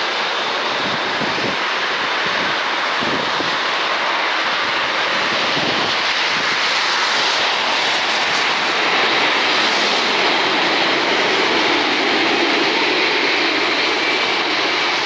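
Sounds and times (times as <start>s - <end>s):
airliner jet noise overhead: 0.0s - 15.0s.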